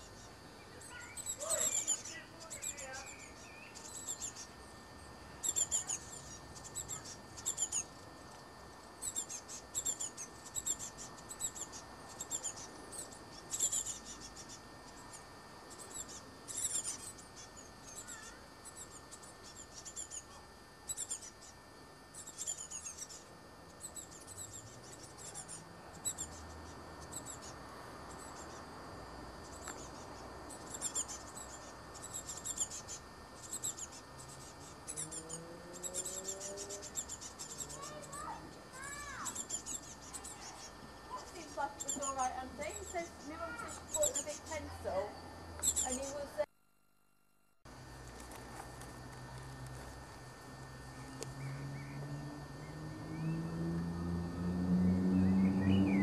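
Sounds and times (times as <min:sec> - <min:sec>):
songbirds calling: 0:00.0 - 0:46.4, 0:47.8 - 0:56.0.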